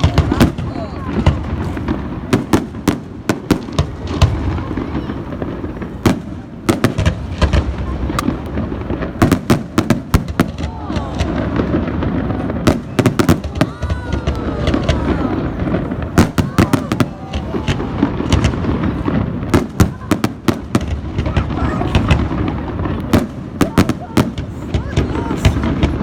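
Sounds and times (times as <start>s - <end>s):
fireworks bangs and cracks: 0.0s - 26.0s
low rumble of fireworks bursts: 0.0s - 26.0s.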